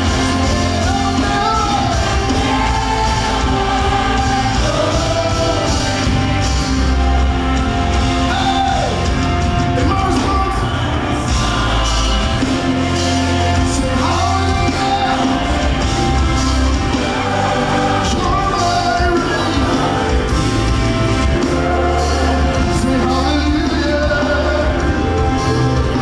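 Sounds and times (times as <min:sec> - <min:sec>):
live gospel band playing: 0:00.0 - 0:26.0
people singing: 0:00.0 - 0:26.0.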